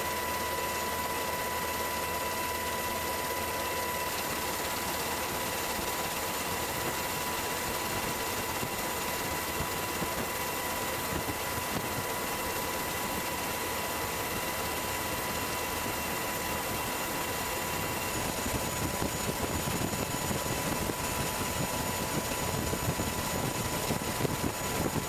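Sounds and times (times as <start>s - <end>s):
aircraft engine rushing and whining: 0.0s - 25.0s.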